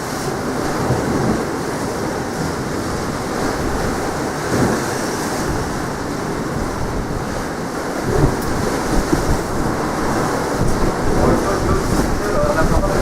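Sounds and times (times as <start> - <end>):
sea surf washing: 0.0 - 13.0
wind buffeting microphone: 0.0 - 13.0.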